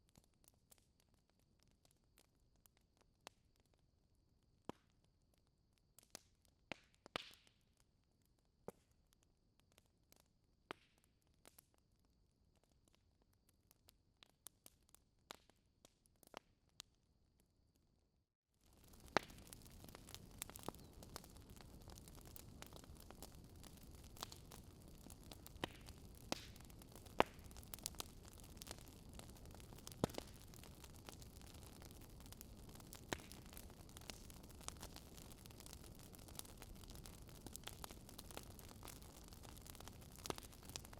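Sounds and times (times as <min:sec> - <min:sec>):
wood fire crackling and popping: 0:04.7 - 0:16.5, 0:18.6 - 0:40.9.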